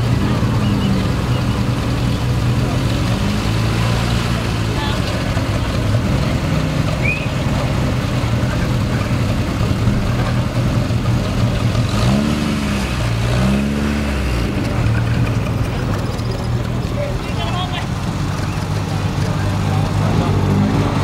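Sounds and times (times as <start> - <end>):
car engine idling: 0.0 - 21.0
engine revving: 0.0 - 21.0.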